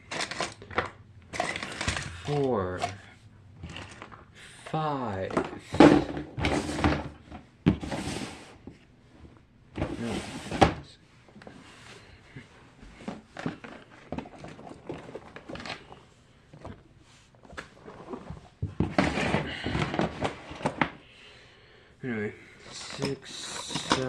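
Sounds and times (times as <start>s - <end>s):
clattering and rustling: 0.0s - 4.3s, 5.3s - 16.8s, 17.4s - 21.0s, 22.6s - 24.0s.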